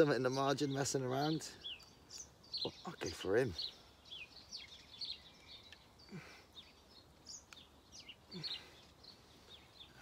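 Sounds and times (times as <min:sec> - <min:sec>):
small birds singing: 0:00.0 - 0:10.0.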